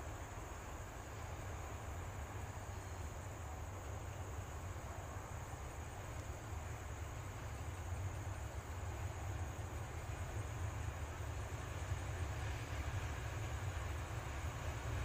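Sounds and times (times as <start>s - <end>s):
crickets droning: 0.0s - 15.0s
diesel locomotive rumbling: 0.0s - 15.0s.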